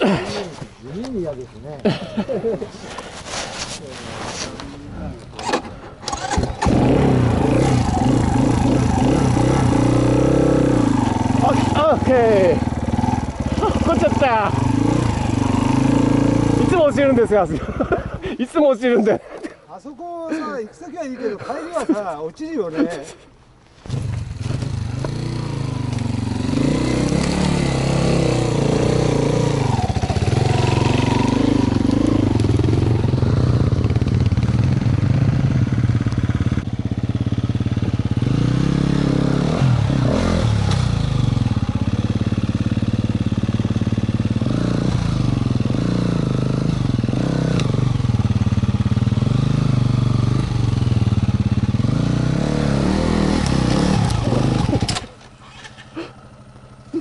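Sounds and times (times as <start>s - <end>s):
dirt bike engines revving: 0.0s - 23.2s, 23.8s - 57.0s.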